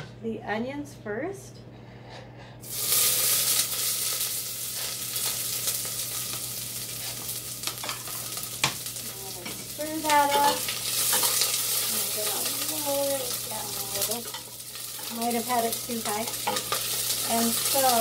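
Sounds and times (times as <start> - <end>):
onions sizzling in hot oil: 2.6 - 18.0.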